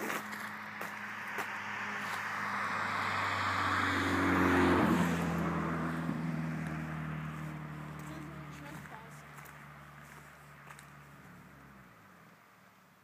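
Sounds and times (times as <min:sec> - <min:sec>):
vehicle passing by: 0:00.0 - 0:12.8.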